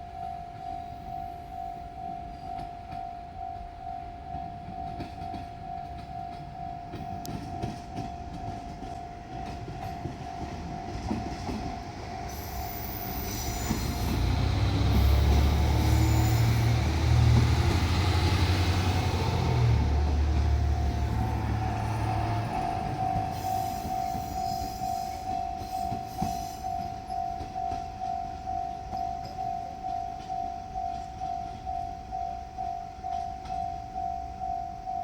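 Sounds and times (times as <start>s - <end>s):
diesel railcar engine rumble: 0.9s - 35.0s
train wheel noise: 2.1s - 35.0s.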